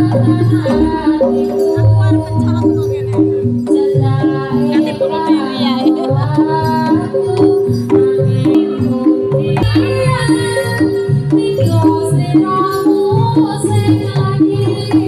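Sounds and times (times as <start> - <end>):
sliding melody line: 0.0 - 14.9
drum strokes: 0.0 - 15.0.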